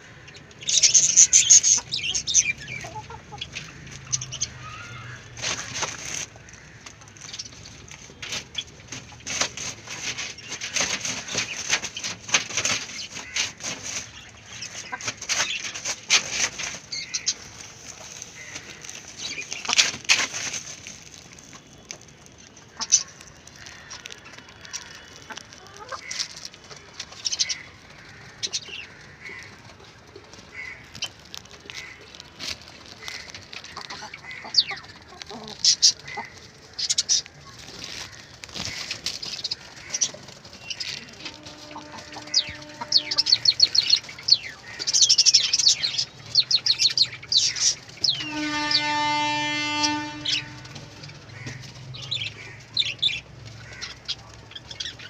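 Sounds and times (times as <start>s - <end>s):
chickens clucking: 0.0s - 55.0s
rustling and clicks: 0.2s - 55.0s.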